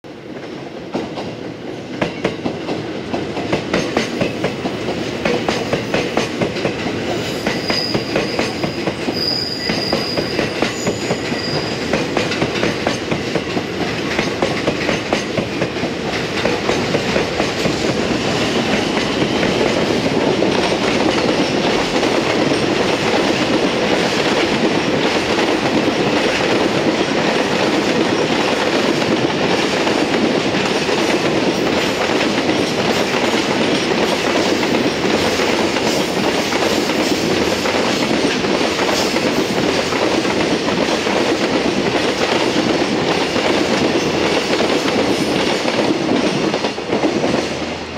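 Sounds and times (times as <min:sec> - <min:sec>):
train wheels clacking over rail joints: 0:00.9 - 0:47.8.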